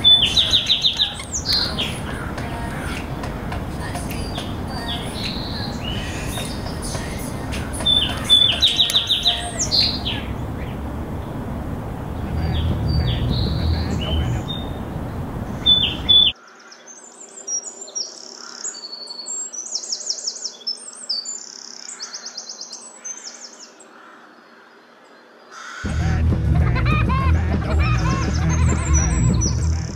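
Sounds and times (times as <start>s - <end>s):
small songbirds chirping: 0.0s - 25.8s
low background noise: 0.0s - 27.2s.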